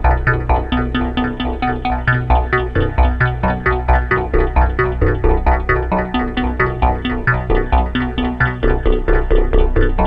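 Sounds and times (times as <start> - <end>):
sustained bass line: 0.0 - 10.0.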